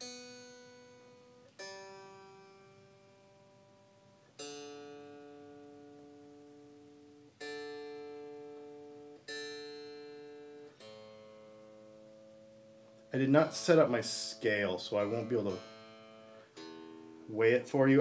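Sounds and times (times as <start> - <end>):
guitar string plucked: 0.0 - 18.0.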